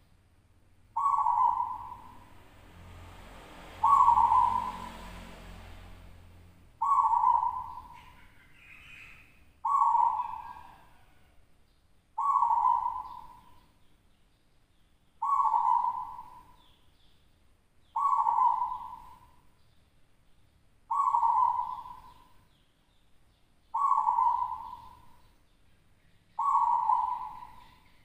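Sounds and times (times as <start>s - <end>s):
dove singing: 0.9s - 11.3s, 12.2s - 17.3s, 17.9s - 19.9s, 20.9s - 28.0s.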